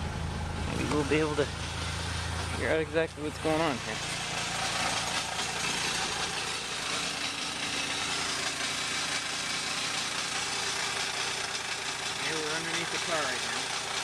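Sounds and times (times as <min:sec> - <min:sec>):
car engine running: 0:00.0 - 0:14.0
drivetrain and tyres humming: 0:00.0 - 0:14.0.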